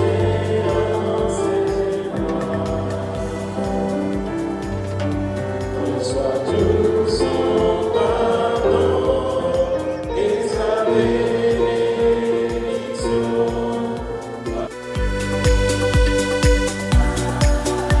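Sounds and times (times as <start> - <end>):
choir singing held chords: 0.0 - 18.0
soft steady beat: 0.0 - 18.0.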